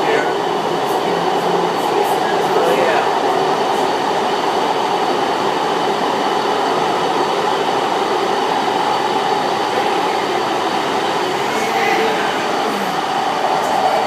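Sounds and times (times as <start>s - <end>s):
train rumble and hiss: 0.0s - 14.0s.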